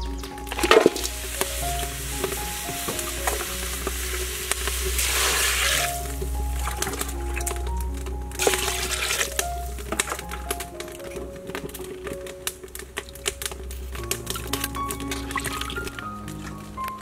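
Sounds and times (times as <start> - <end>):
soft background music: 0.0 - 17.0
water pouring into pot: 0.3 - 11.0, 12.7 - 16.6.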